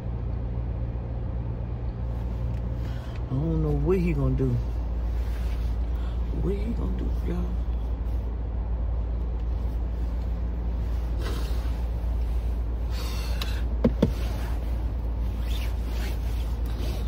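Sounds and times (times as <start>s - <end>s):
car idling: 0.0s - 17.0s.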